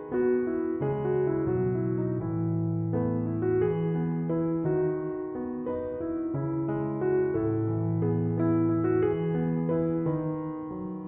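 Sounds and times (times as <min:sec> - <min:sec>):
soft piano melody: 0:00.0 - 0:11.0.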